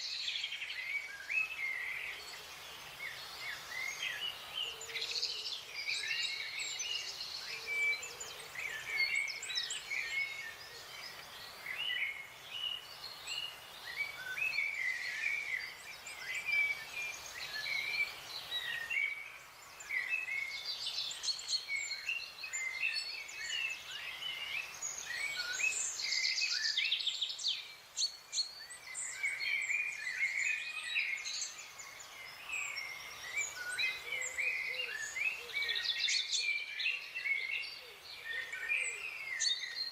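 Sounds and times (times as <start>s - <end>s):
birds chirping and trilling: 0.0s - 39.9s
faint steady hiss: 0.0s - 39.9s.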